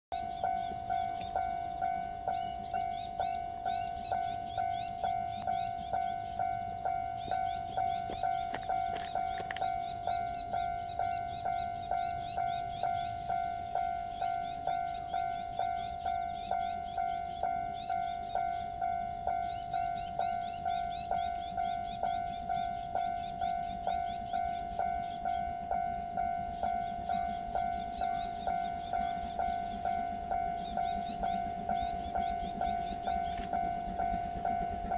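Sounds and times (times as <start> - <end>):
high insect trill: 0.1 - 34.9.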